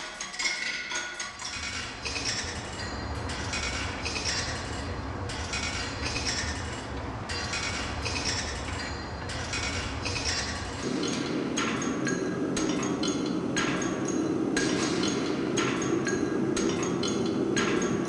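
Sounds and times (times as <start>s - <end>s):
steady low rumble: 1.6s - 18.0s.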